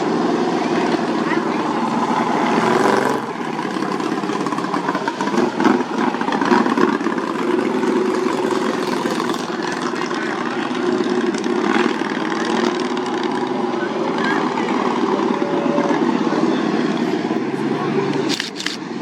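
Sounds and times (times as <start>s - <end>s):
racing lawn mower engines: 0.0s - 19.0s.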